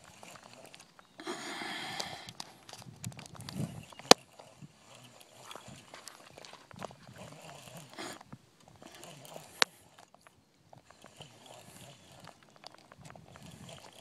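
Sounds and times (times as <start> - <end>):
faint clicks and knocks: 1.9 - 14.0.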